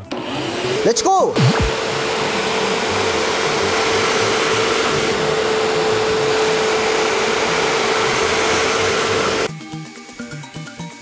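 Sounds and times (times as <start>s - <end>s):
carpet cleaner running with whine: 0.0s - 9.5s.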